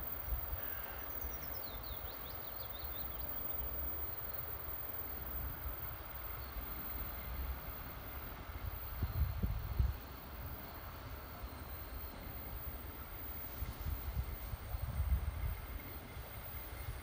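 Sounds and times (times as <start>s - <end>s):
distant diesel locomotive rumble: 0.0s - 17.0s
outdoor background noise: 0.0s - 17.0s.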